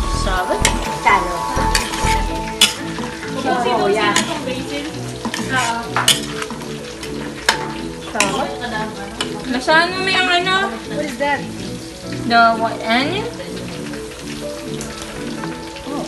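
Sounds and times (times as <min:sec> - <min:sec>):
food sizzling in a wok: 0:00.4 - 0:16.0.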